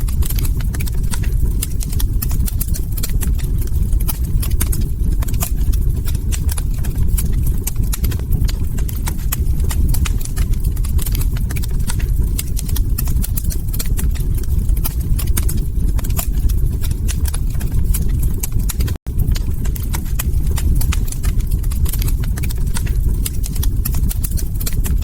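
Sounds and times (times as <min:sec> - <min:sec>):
log fire crackling and popping: 0:00.0 - 0:25.0
low rumble: 0:00.0 - 0:25.0.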